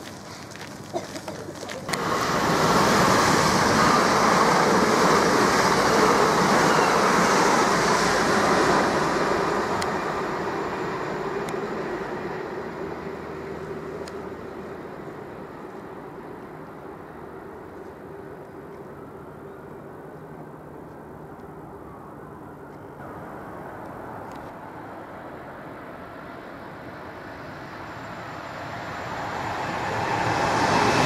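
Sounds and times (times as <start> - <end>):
train wheel and rail noise: 0.0 - 31.0.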